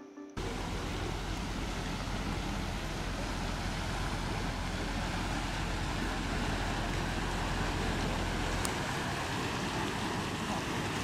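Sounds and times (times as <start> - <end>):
lakeside water noise: 0.4 - 11.0
wind buffeting microphone: 0.4 - 11.0.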